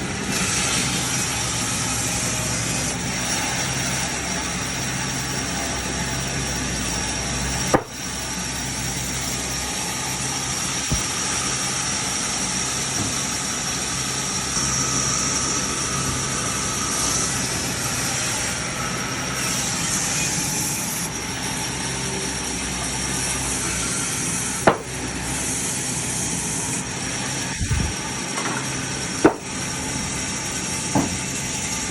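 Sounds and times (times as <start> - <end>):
chainsaw cutting tree: 0.0 - 20.1, 21.0 - 31.9.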